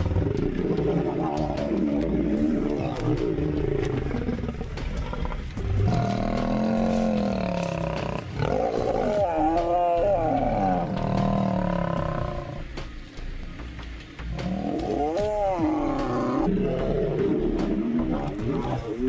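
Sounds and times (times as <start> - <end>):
lions growling and snarling: 0.0 - 12.6, 14.3 - 19.0.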